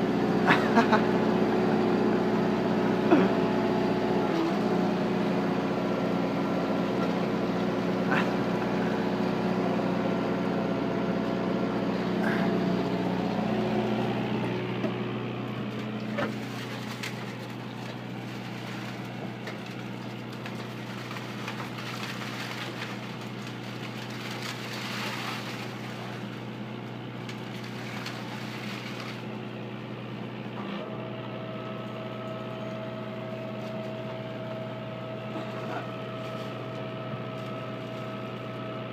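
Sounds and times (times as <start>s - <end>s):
engine-driven hoist droning: 0.0s - 38.9s.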